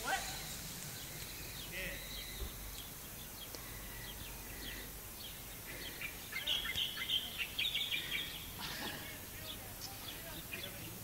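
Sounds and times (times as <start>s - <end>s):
birds chirping: 0.0s - 11.0s
faint outdoor hiss: 0.0s - 11.0s.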